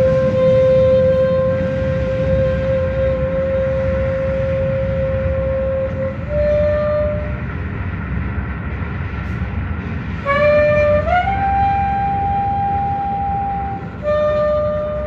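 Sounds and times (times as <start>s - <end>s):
alto saxophone long notes: 0.0s - 7.4s, 10.2s - 15.0s
low background drone: 0.0s - 15.0s.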